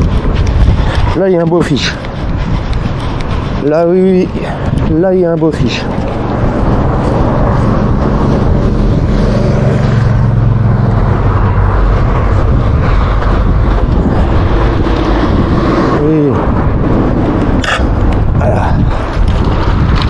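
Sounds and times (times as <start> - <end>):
continuous rushing noise: 0.0 - 20.0
vehicle engine hum passing: 0.0 - 20.0.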